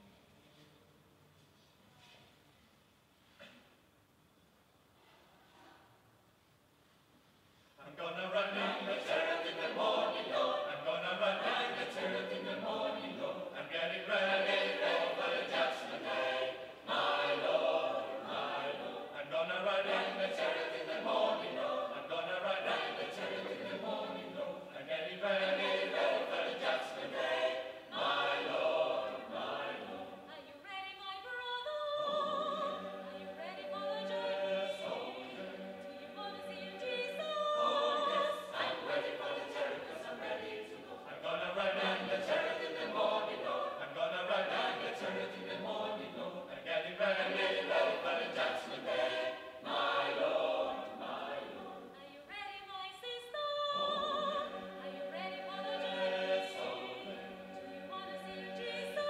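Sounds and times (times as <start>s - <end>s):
mixed choir singing a cappella: 7.8s - 59.0s.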